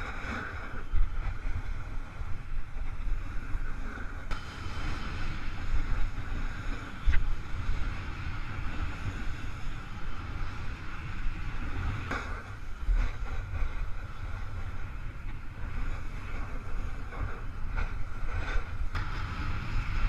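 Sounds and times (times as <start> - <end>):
snowboard sliding on snow: 0.0 - 20.0
wind buffeting microphone: 0.0 - 20.0.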